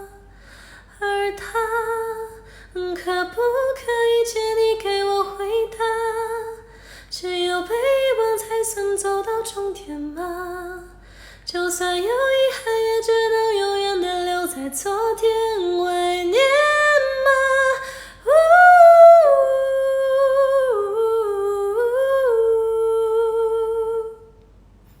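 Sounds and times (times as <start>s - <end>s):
woman singing with voice effect: 0.0s - 24.4s.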